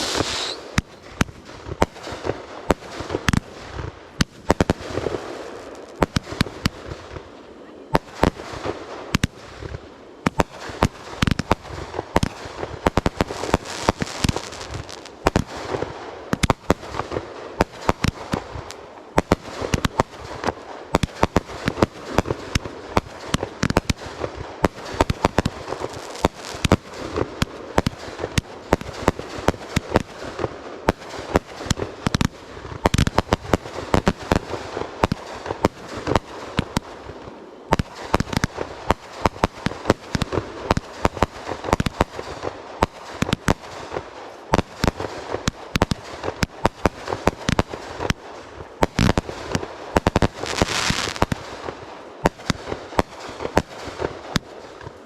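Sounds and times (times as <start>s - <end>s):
fireworks booms and cracks: 0.0s - 55.0s
fireworks crackling: 0.0s - 55.0s.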